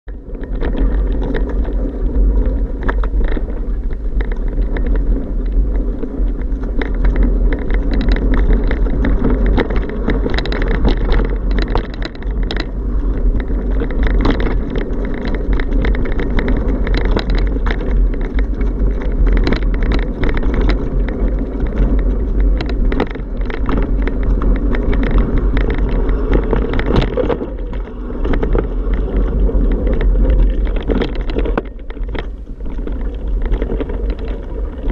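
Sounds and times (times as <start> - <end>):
bike rattles and clicks: 0.0 - 34.9
wind buffeting microphone: 0.0 - 34.9.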